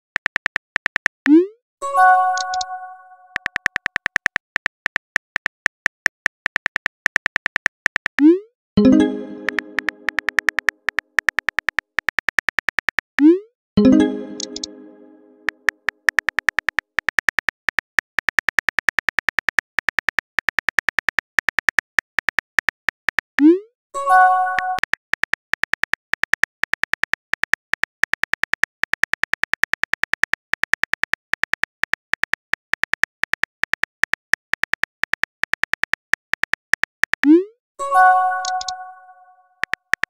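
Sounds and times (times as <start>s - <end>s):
keyboard typing clicks: 0.1s - 1.4s, 2.0s - 23.6s, 24.3s - 37.5s, 38.2s - 40.0s.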